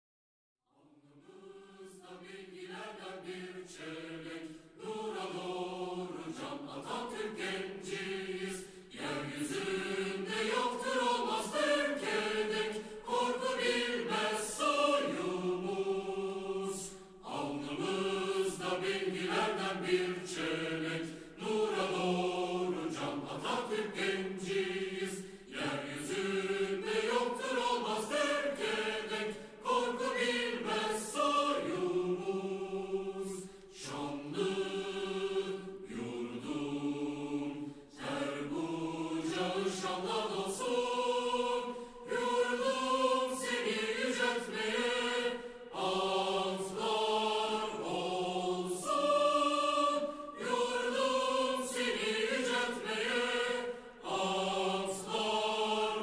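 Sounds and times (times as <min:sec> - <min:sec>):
choir singing: 0:00.7 - 0:56.0.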